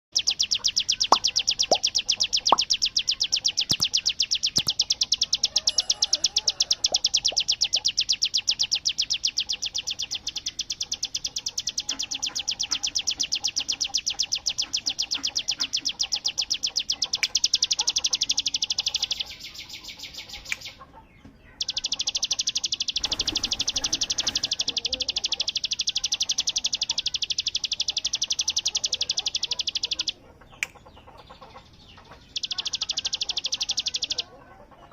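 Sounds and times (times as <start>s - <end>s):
bird rapid high chirps: 0.1s - 34.9s.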